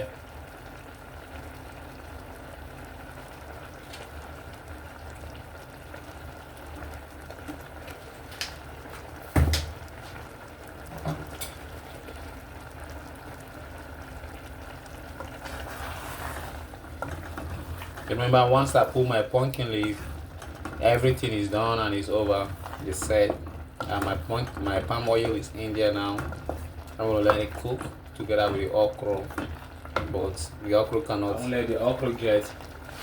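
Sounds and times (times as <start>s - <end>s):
soup bubbling in a pot: 0.0s - 33.0s.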